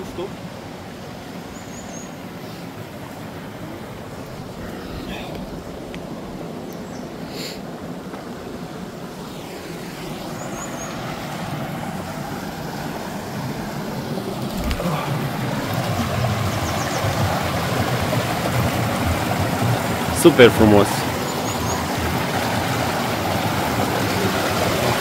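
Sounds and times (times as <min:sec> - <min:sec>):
waterfall and stream rushing: 0:00.0 - 0:25.0.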